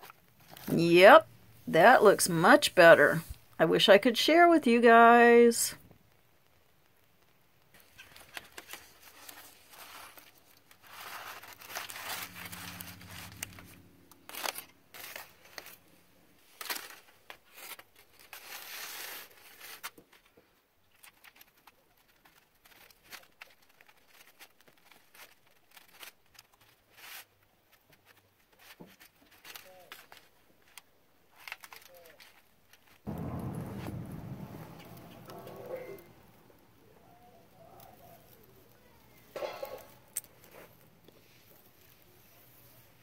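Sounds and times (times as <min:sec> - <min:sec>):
aluminium foil crinkling: 0:00.0 - 0:03.6, 0:06.0 - 0:34.1, 0:36.8 - 0:43.0.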